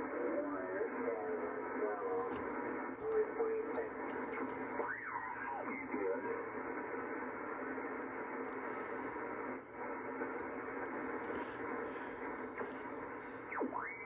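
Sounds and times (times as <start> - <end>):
radio band noise and static: 0.0 - 14.0.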